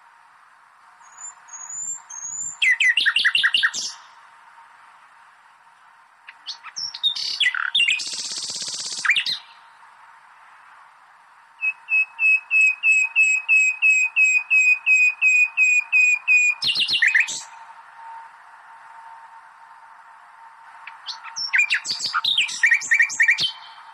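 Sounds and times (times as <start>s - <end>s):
songbird singing: 0.9s - 23.9s.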